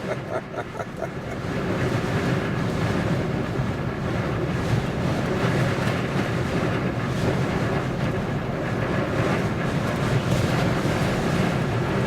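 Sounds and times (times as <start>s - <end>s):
wind buffeting a vehicle: 0.0s - 12.0s.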